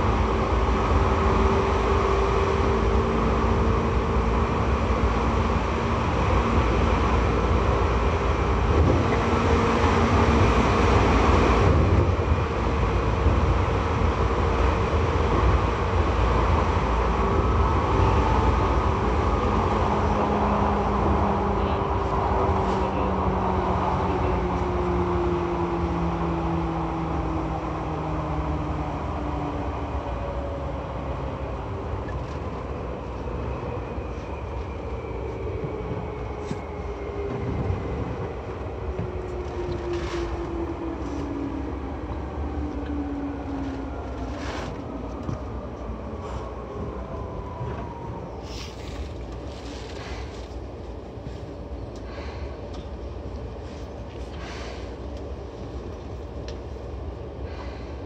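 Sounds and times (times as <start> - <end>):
train wheel and rail rumble: 0.0 - 58.0.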